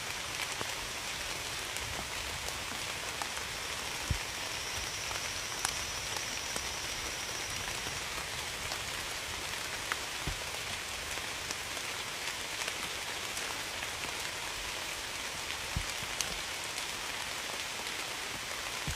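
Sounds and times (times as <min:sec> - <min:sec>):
steady rain hiss: 0:00.0 - 0:18.9.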